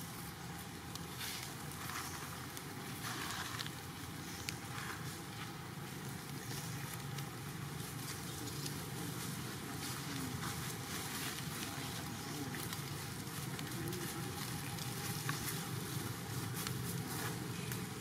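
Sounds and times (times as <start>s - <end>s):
dry leaves crackling and rustling: 0.0s - 18.0s.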